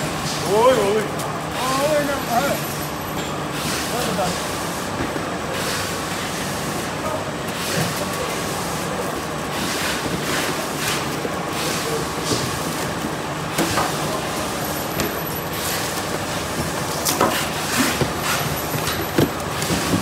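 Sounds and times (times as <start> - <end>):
packaging machine running: 3.7 - 20.0.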